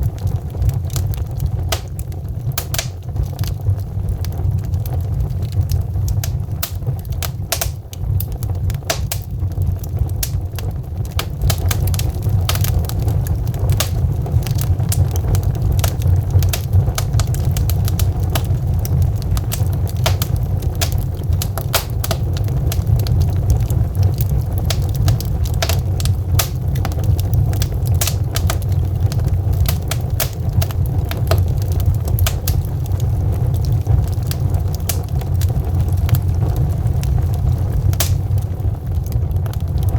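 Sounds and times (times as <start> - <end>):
fireplace crackles and pops: 0.0 - 39.9
low fire noise: 0.0 - 39.9.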